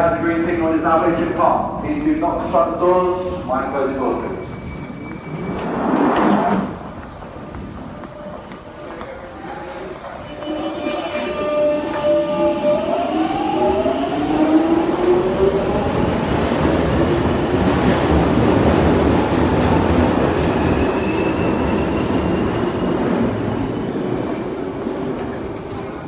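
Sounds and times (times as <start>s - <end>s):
train running noise: 4.4s - 26.0s.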